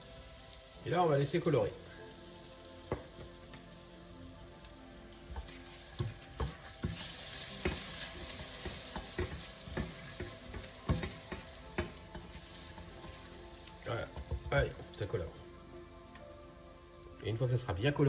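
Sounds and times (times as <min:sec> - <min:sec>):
butter and sugar sizzling: 0:00.0 - 0:18.0.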